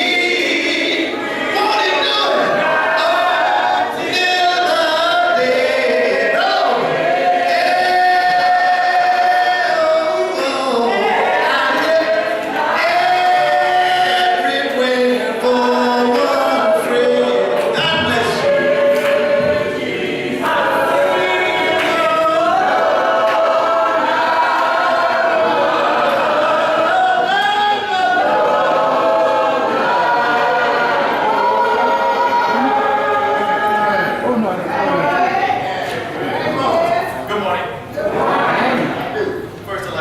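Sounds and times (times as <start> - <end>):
congregation singing a cappella: 0.0 - 39.7.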